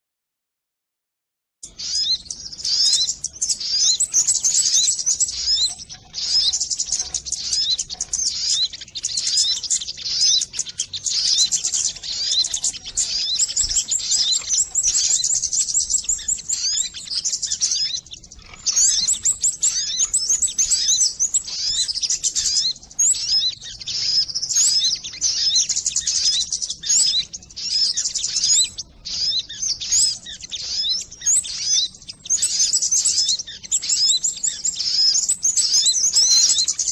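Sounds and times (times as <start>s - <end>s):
recorded bird chirps and trills: 1.6s - 36.9s.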